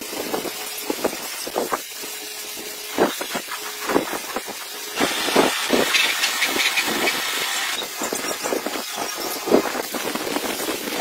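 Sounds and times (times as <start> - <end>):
spray gun hissing: 0.7 - 11.0.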